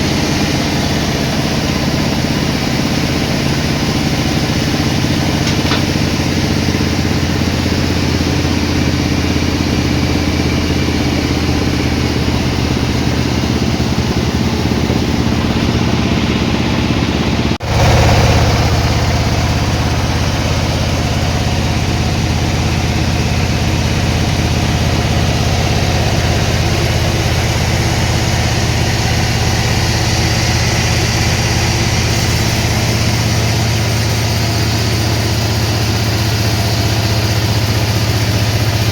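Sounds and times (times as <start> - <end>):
sawmill machinery engine droning: 0.0 - 38.9.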